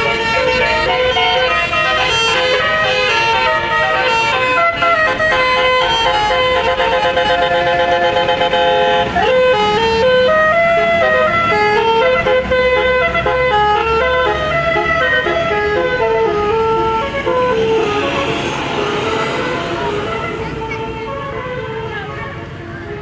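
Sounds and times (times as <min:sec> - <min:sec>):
musical bus horn melody: 0:00.0 - 0:23.0.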